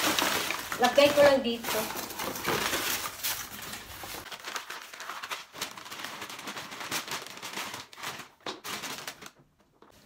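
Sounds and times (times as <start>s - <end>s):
cardboard and paper crackling: 0.0s - 10.0s.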